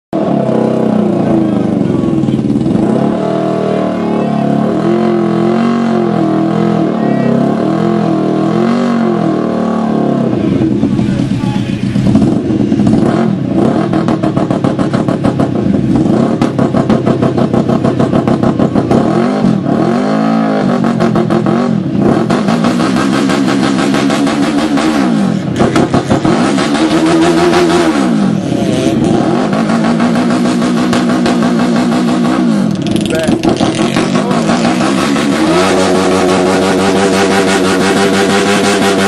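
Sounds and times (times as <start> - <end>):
engine revving through exhaust: 0.2 - 39.0.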